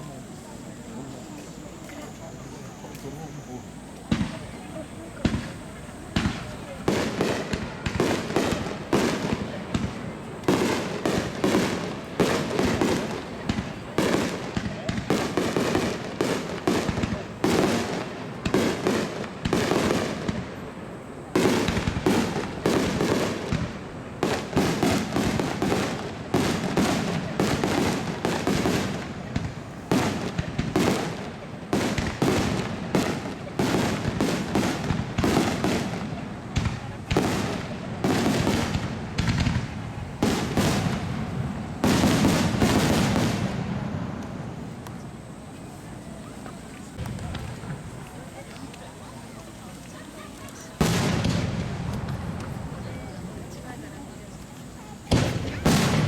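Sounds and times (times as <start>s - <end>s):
fireworks bursting with echo: 0.0s - 56.0s.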